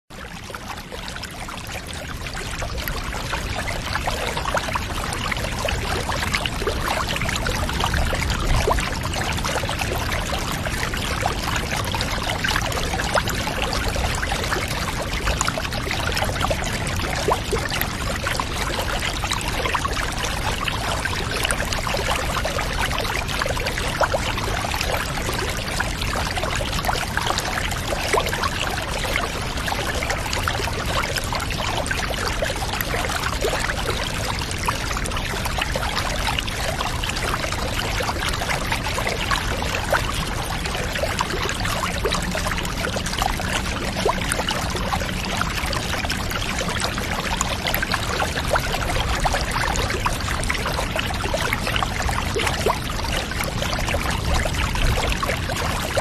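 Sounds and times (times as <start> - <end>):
water running and trickling: 0.2 - 56.0.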